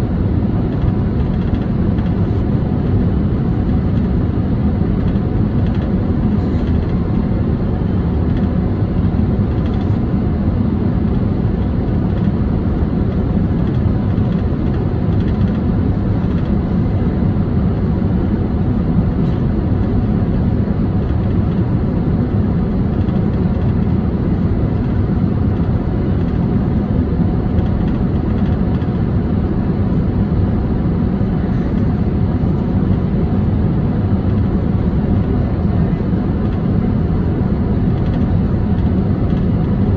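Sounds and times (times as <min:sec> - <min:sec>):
airflow rush in cabin: 0:00.0 - 0:39.9
jet engines: 0:00.0 - 0:39.9.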